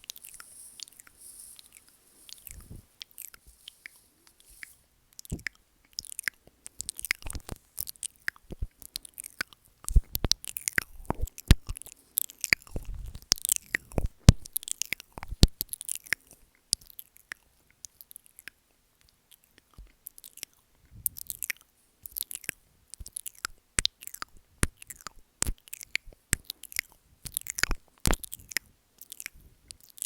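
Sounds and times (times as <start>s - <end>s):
wet mouth clicks and smacks: 0.0s - 30.0s.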